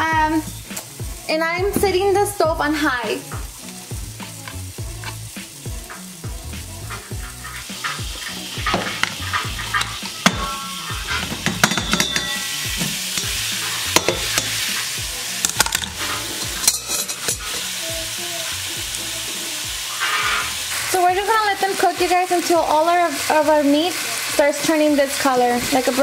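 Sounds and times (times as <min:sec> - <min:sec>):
meat sizzling in oil: 0:00.0 - 0:26.0.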